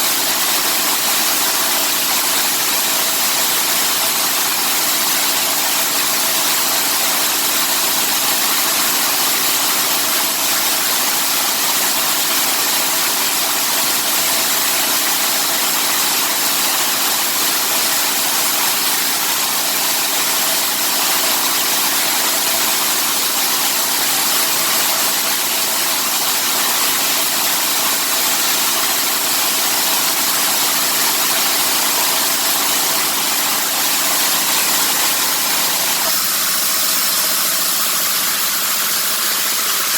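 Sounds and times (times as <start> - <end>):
coffee huller hissing and humming: 0.0 - 39.9.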